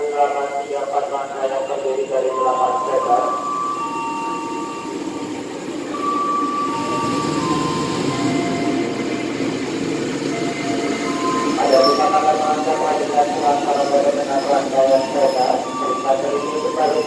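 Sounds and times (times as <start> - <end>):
thin steady whine: 0.0 - 17.0
train cars rolling on rails: 0.0 - 17.0.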